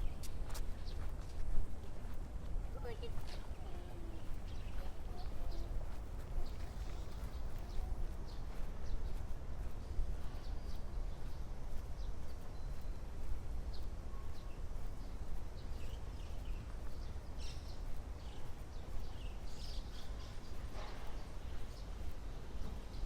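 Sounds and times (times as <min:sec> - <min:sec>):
birds chirping: 0:02.7 - 0:09.3, 0:10.1 - 0:23.0.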